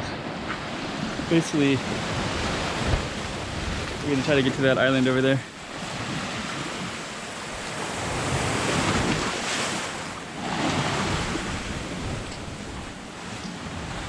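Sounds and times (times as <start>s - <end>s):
sea waves washing ashore: 0.0s - 14.0s
wind buffeting microphone: 0.0s - 14.0s.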